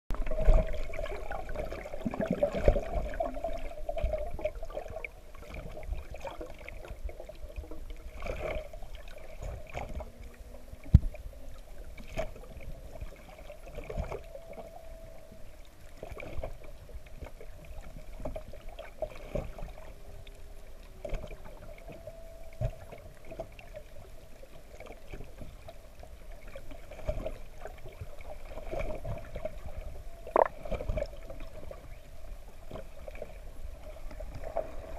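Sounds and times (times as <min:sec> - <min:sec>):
bubbles and water noise: 0:00.1 - 0:34.9
steady underwater hum: 0:00.1 - 0:34.9.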